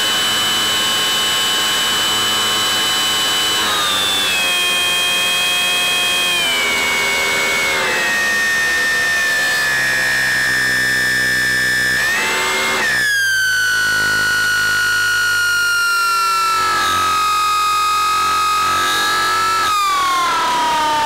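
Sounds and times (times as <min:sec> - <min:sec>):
electric model plane motor whining: 0:00.0 - 0:21.0.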